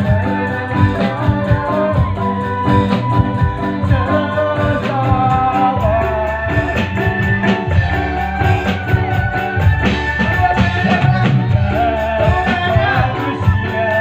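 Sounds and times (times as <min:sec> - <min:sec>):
drum beat: 0:00.0 - 0:14.0
tambourine-like percussion: 0:00.0 - 0:14.0.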